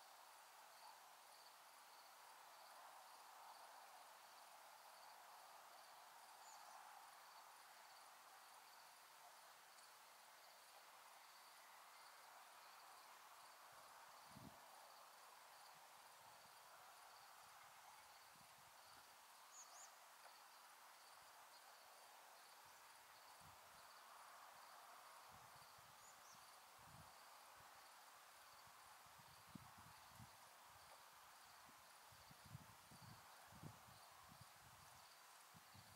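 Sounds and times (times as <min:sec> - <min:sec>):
insect chirping: 0:00.0 - 0:35.9.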